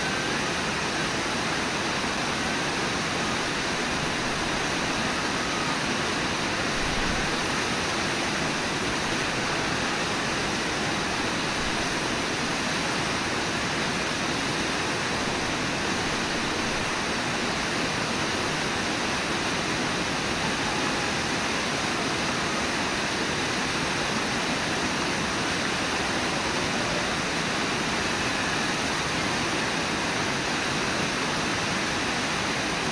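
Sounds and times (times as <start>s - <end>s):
whitewater rushing: 0.0s - 32.9s.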